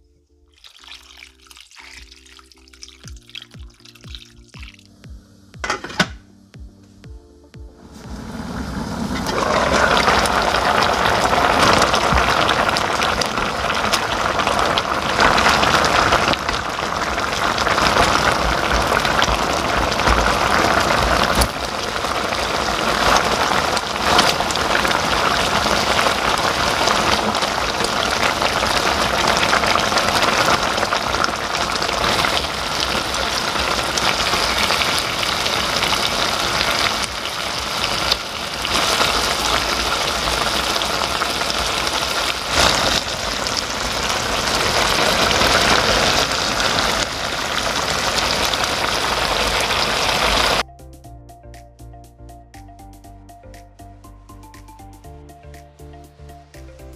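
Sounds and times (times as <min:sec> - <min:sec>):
sauce bubbling in a pan: 0:00.6 - 0:05.1, 0:08.1 - 0:50.6.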